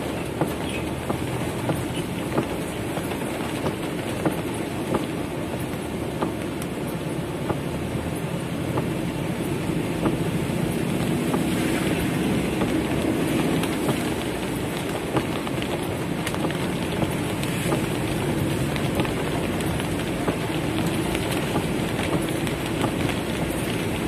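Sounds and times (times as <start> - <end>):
heavy rain on car roof: 0.0 - 24.0.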